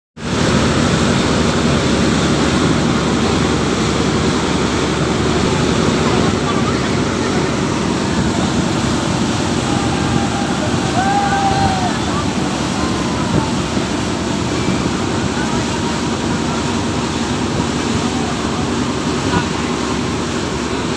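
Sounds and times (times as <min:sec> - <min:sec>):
boat engine droning: 0:00.2 - 0:20.9
water churning along boat hull: 0:00.2 - 0:20.9.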